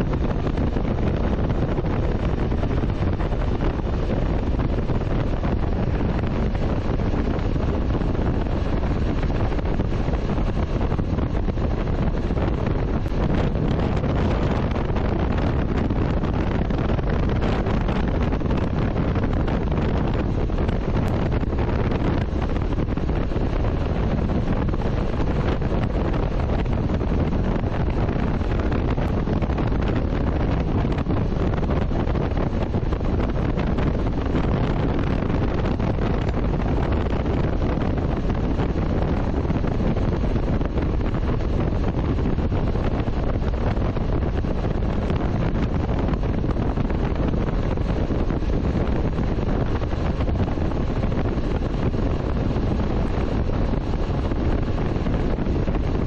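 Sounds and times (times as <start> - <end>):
motorcycle engine rumble: 0.0 - 56.0
wind buffeting microphone: 0.0 - 56.0.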